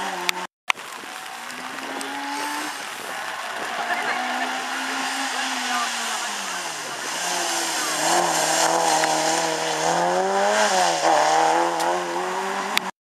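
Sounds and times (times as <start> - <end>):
rally car engine revving passing: 1.5 - 12.9.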